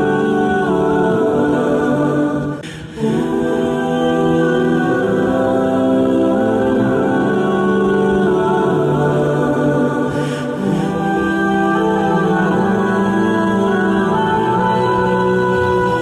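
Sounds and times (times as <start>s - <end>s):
choir singing long held chords: 0.0s - 16.0s.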